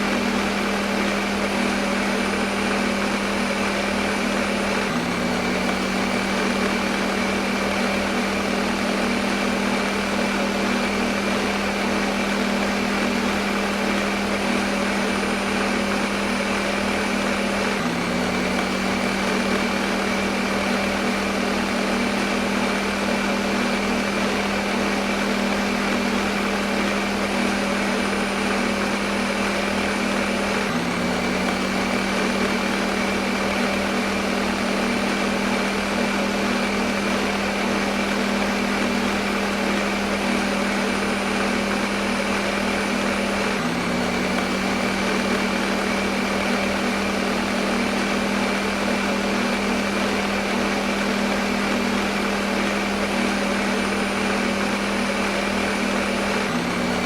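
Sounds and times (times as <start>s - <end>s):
blender motor whirring: 0.0s - 57.0s.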